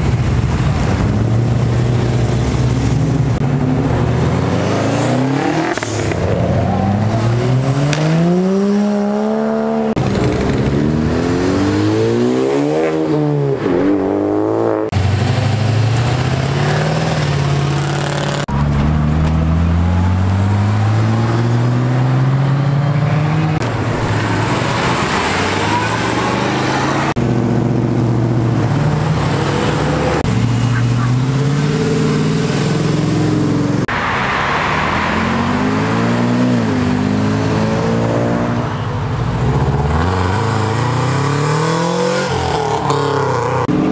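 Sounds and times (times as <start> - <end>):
cars accelerating hard: 0.7 - 43.9.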